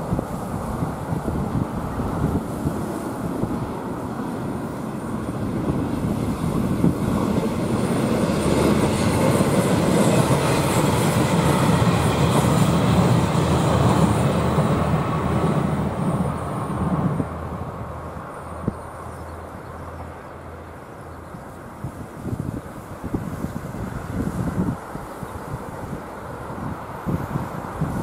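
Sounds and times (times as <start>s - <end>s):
aircraft engine rumble: 0.0s - 28.0s.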